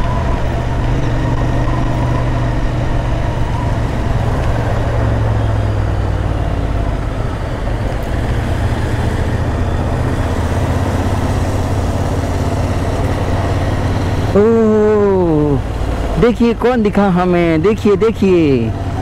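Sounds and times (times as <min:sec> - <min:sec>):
motorcycle engine running: 0:00.0 - 0:16.2
road noise: 0:00.0 - 0:19.0.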